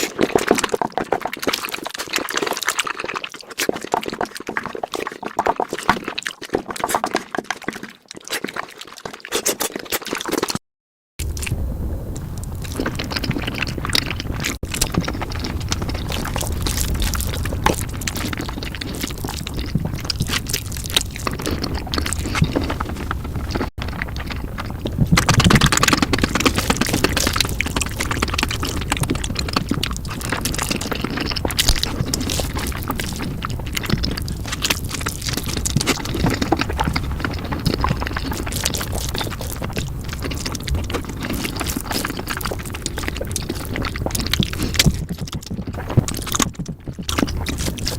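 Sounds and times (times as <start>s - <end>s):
sped-up noodle slurping and chewing: 0.0s - 10.6s, 11.2s - 47.9s.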